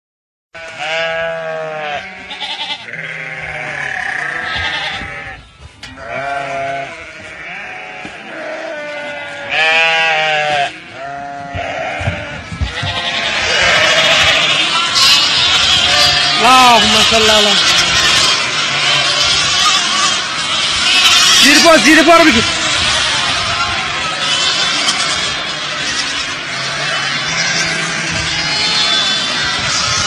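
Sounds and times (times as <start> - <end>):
sheep bleating: 0.6 - 30.0.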